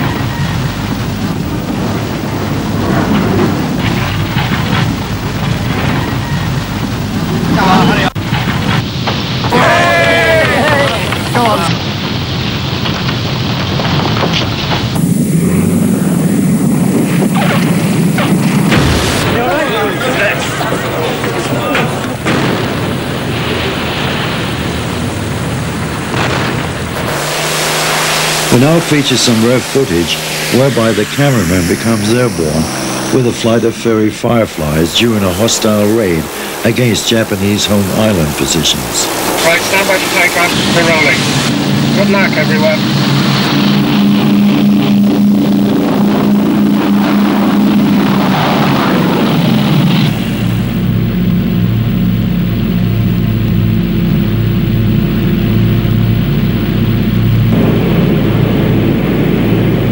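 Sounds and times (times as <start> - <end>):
aircraft engines roaring: 0.0 - 59.9
wind: 0.0 - 59.9.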